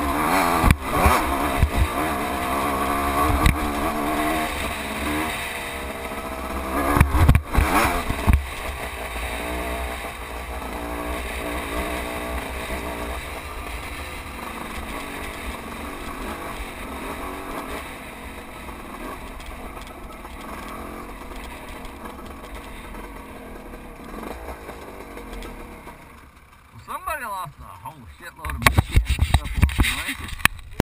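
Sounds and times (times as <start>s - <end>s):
off-road vehicle engine: 0.0s - 30.8s.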